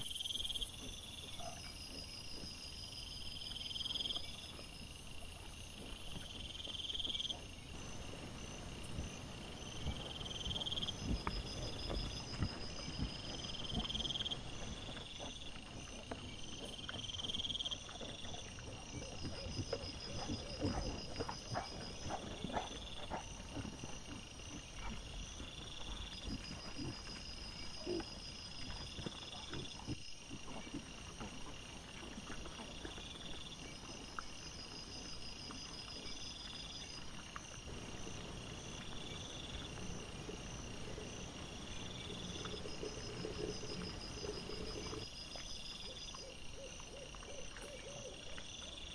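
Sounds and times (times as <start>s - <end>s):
insects calling in pulses: 0.0s - 48.9s.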